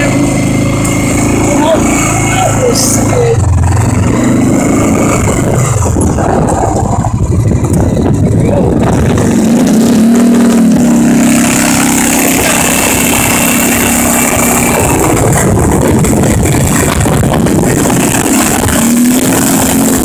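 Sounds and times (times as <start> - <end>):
four-wheeler engine running: 0.0 - 20.0.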